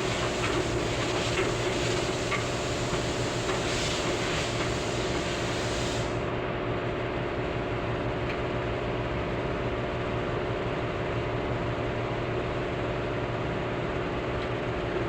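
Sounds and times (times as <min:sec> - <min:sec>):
machine running with hum: 0:00.0 - 0:15.0.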